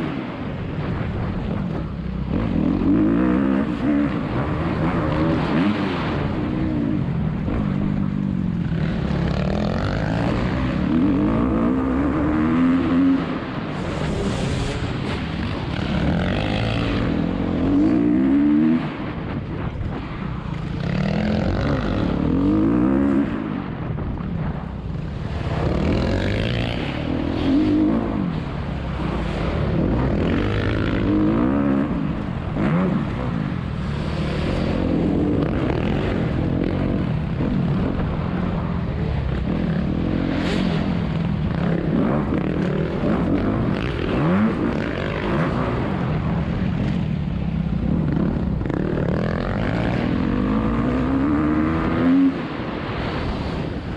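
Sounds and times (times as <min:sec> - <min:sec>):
motocross bike engine revving: 0:02.2 - 0:19.2, 0:20.5 - 0:23.6, 0:25.1 - 0:52.4.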